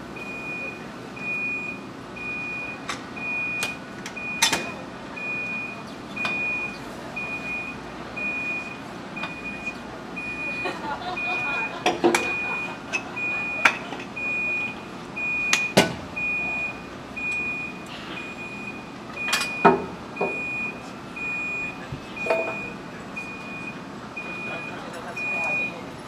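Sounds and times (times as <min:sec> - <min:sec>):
electronic warning beep: 0:00.2 - 0:25.8.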